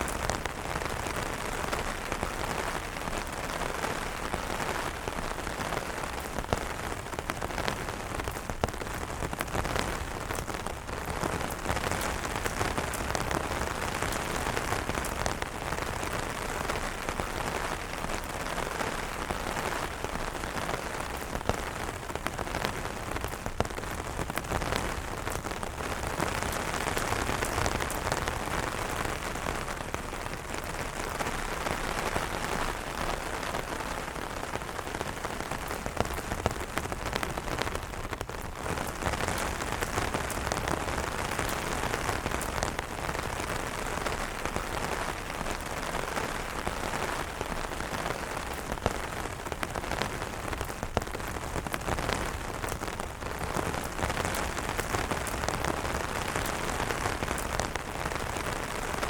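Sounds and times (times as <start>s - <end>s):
rain drumming on umbrella: 0.0s - 59.0s.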